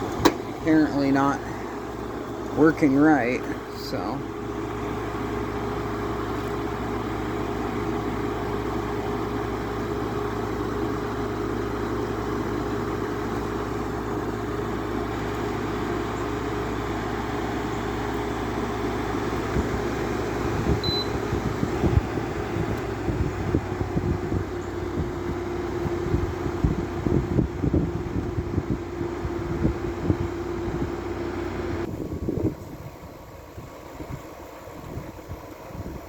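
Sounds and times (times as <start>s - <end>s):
air conditioner hum and airflow: 0.0s - 36.0s.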